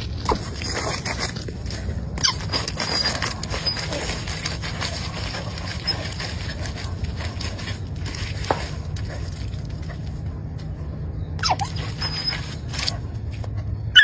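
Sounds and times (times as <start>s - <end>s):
loose dirt pattering: 0.0s - 13.8s
dog paws scraping dirt: 0.0s - 14.0s
steady low rumble: 0.0s - 14.0s.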